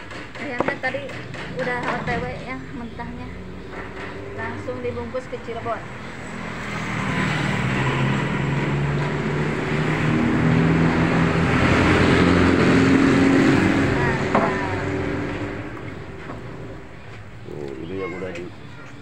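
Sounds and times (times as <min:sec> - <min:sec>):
vehicle engine passing by: 0:01.4 - 0:17.0.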